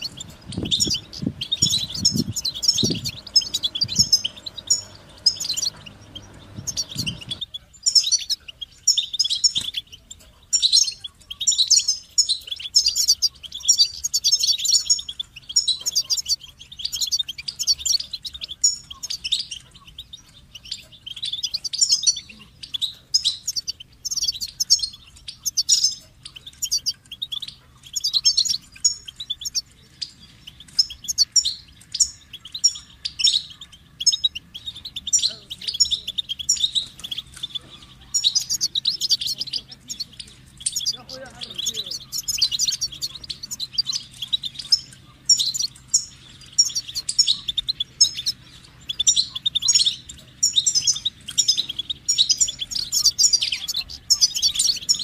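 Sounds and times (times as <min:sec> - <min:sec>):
finch twittering song: 0:00.0 - 0:55.0.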